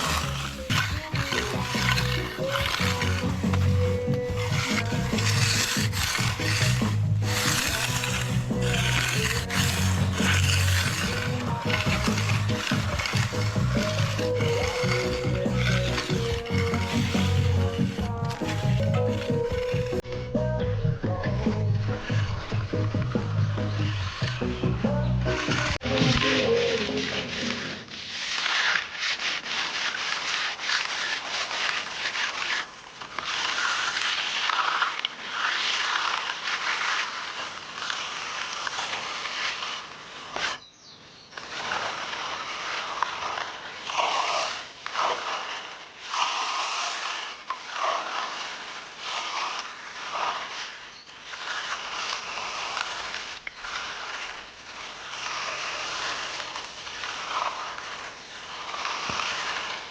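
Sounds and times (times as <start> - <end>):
tool scraping wet concrete: 0.0 - 59.9.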